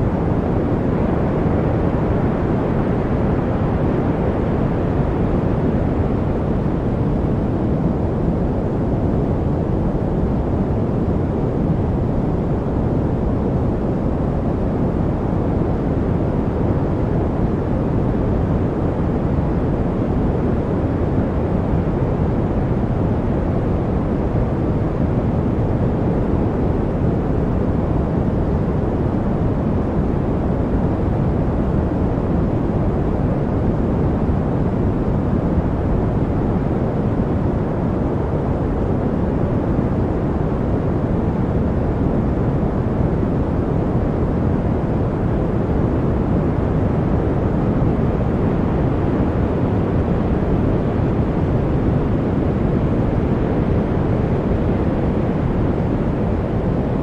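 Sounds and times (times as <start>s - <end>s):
low white noise rush: 0.0s - 57.0s.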